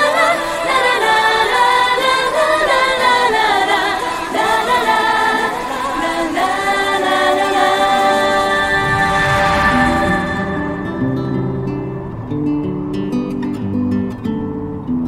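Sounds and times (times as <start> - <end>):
choir singing held chords: 0.0 - 12.4.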